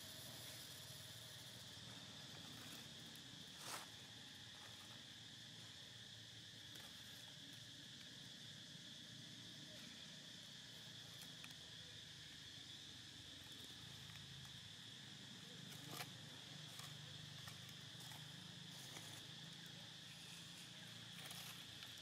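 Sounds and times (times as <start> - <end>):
insect chorus buzzing: 0.0 - 22.0.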